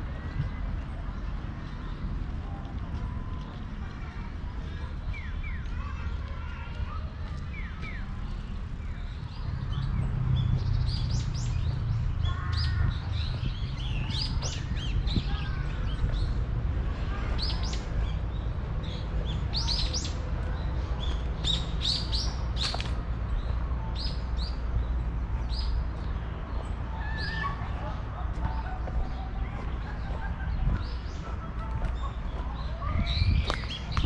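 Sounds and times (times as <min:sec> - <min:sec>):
small birds chirping: 0:00.0 - 0:16.7, 0:17.3 - 0:34.0.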